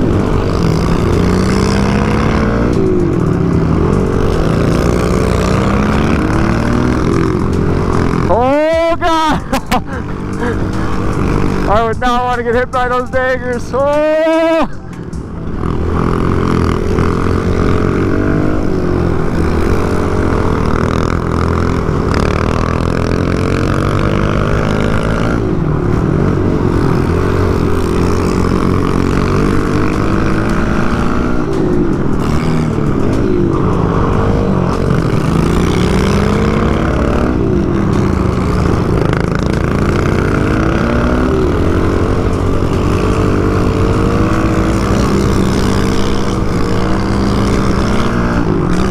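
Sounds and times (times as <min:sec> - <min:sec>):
motorbike engines revving: 0:00.0 - 0:48.9.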